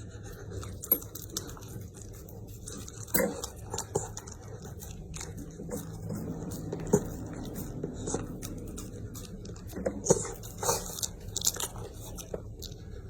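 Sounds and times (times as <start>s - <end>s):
dog chewing food: 0.0s - 13.0s.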